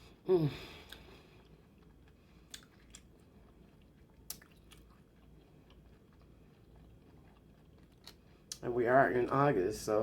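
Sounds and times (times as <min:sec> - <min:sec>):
faint chewing: 0:00.6 - 0:09.5.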